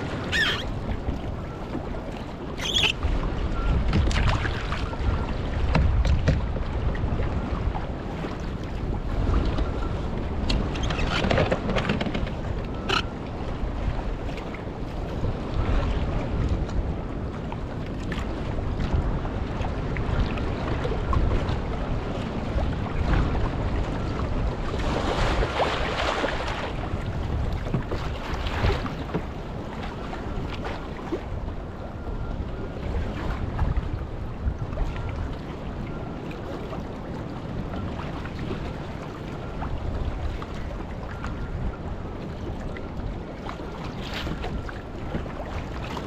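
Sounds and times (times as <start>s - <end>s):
choppy water splashing: 0.0s - 46.0s
wind buffeting microphone: 0.0s - 46.0s.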